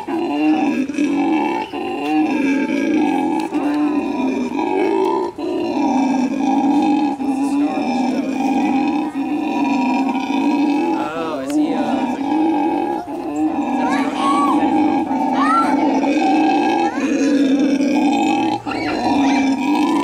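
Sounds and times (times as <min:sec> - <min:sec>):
monkey grunting roar: 0:00.0 - 0:20.0.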